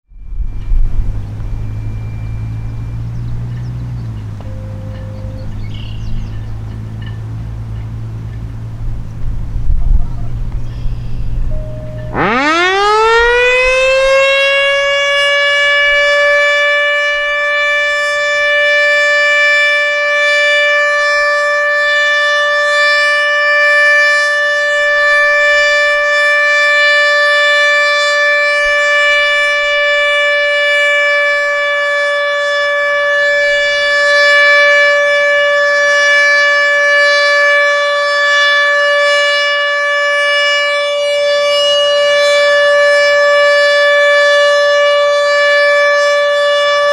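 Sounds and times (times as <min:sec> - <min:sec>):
tornado siren winding up: 0:00.1 - 0:46.9.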